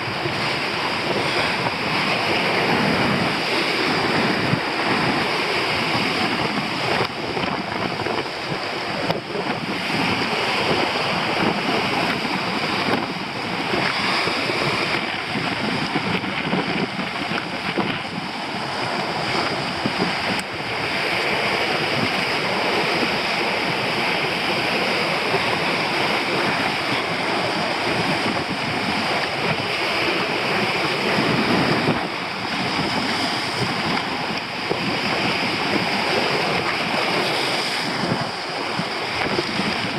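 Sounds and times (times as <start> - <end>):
surf breaking on rocks: 0.0 - 39.9
wind blowing across microphone: 0.0 - 39.9.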